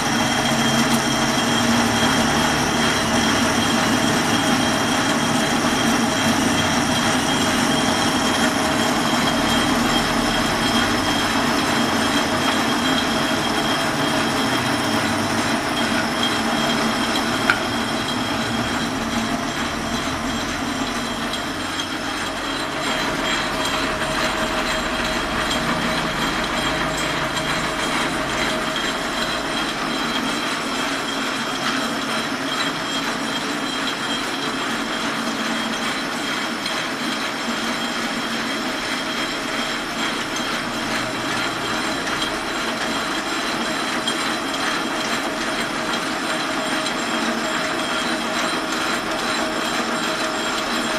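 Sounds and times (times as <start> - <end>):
lathe running with whining tones: 0.0 - 50.9.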